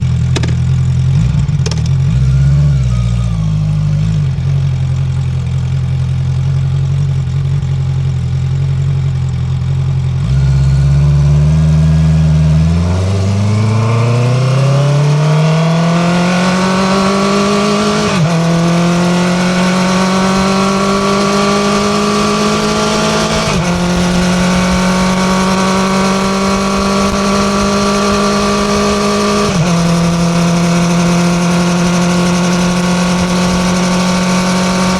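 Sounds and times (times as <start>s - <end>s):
motorcycle exhaust accelerating: 0.0s - 34.9s.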